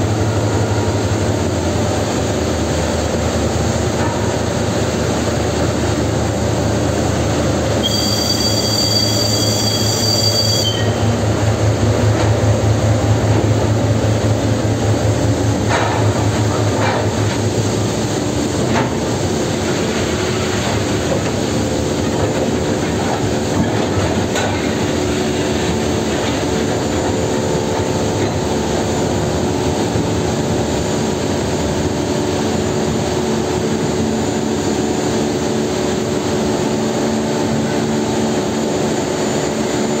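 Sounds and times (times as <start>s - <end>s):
industrial rumble: 0.0s - 40.0s
mechanical hum: 0.0s - 40.0s
rail cars rolling on track: 0.0s - 40.0s.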